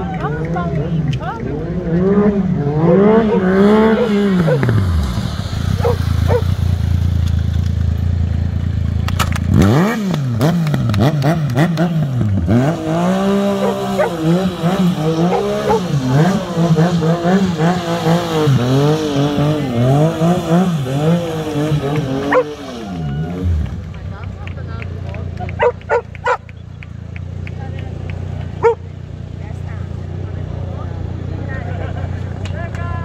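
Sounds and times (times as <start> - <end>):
motorcycle engine revving: 0.0 - 32.5.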